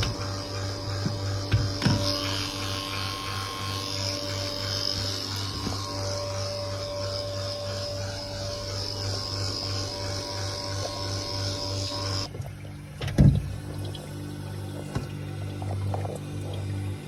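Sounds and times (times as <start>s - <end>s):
electric motor hum: 0.0s - 17.0s.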